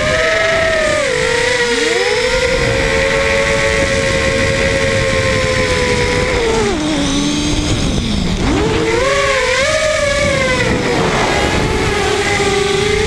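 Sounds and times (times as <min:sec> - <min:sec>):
drone motors whining: 0:00.0 - 0:13.0
rushing air noise: 0:02.3 - 0:13.0.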